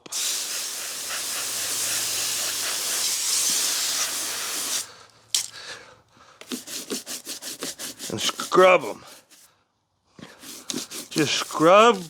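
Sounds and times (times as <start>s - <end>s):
hose spraying water on boots: 0.0s - 5.5s, 6.4s - 9.3s, 10.4s - 12.0s.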